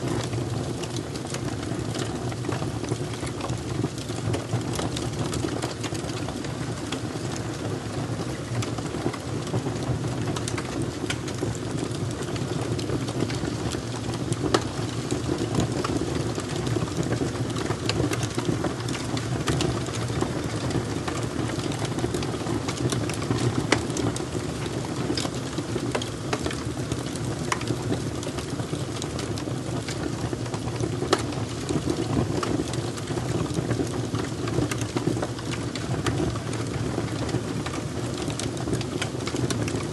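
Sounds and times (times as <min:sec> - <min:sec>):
fire crackling and popping: 0:00.0 - 0:39.9
low rushing of flames: 0:00.0 - 0:39.9.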